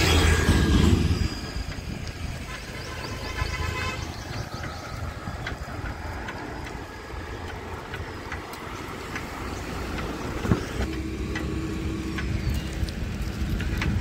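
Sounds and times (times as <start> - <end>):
vehicle road and engine rumble: 0.0 - 14.0.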